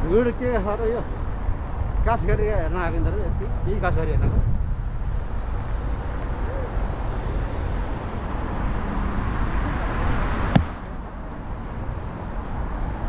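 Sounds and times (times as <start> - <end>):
road traffic passing: 0.0 - 13.0
wind rumbling on microphone: 0.0 - 13.0.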